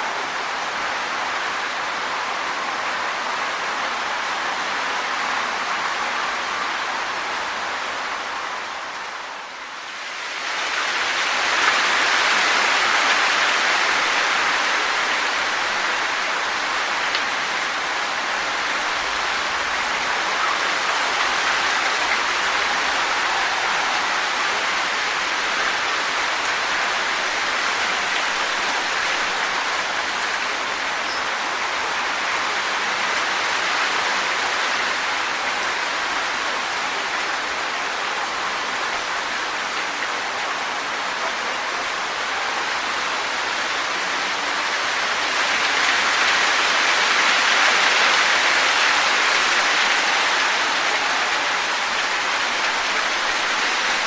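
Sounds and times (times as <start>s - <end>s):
wind rustling tree leaves: 0.0s - 54.0s.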